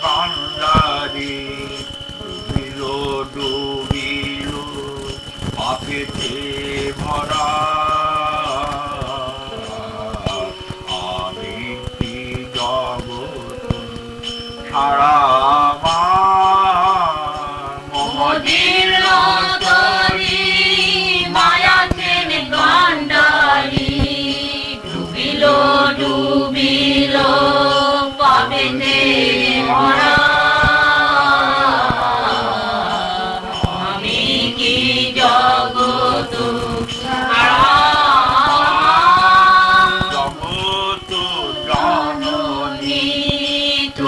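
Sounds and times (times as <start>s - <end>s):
devotional music: 0.0s - 44.0s
melodic sung chant: 0.0s - 44.0s.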